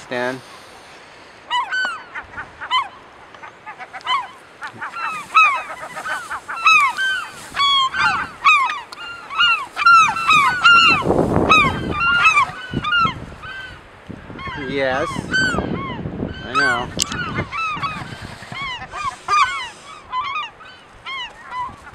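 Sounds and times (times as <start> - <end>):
gulls calling in alarm: 1.4 - 21.9.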